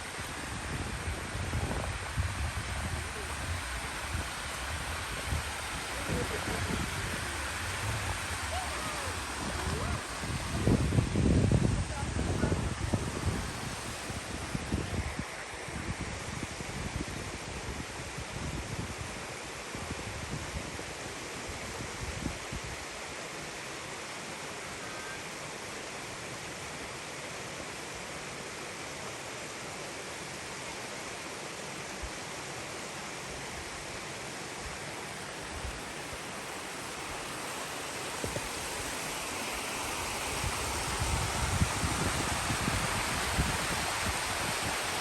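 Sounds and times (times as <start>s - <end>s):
waterfall rushing: 0.0s - 17.6s, 22.8s - 45.0s.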